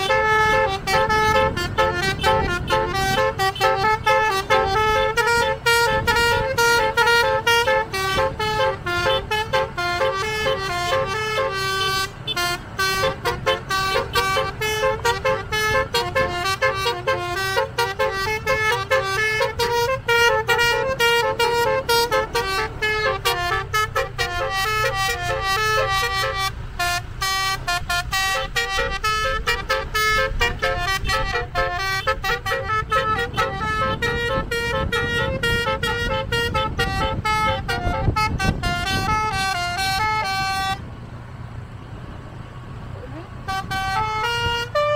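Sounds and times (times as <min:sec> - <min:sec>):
bus horn playing melody: 0:00.0 - 0:40.9, 0:43.3 - 0:44.9
bus engine rumble: 0:00.0 - 0:44.9.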